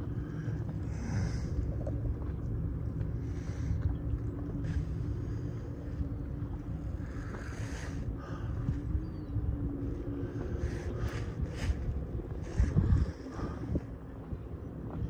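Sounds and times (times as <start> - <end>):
low droning rumble: 0.0 - 15.0.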